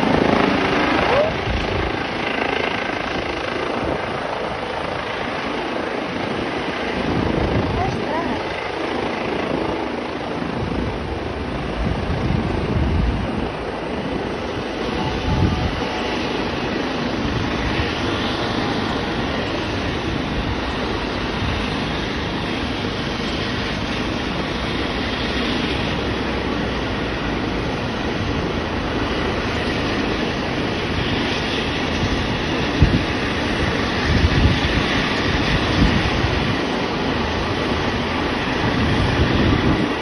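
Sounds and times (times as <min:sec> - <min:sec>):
helicopter hovering: 0:00.0 - 0:40.0.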